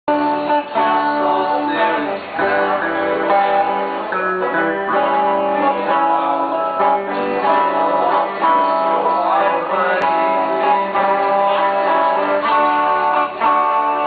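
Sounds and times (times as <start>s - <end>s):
acoustic guitar playing: 0.1s - 14.0s.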